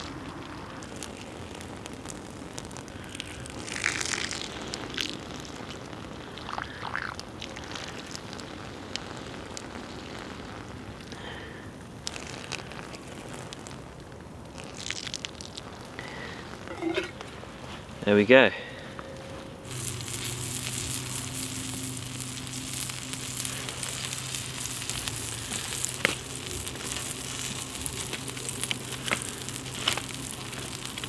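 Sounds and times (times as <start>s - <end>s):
scattered crackles: 0.0s - 31.0s.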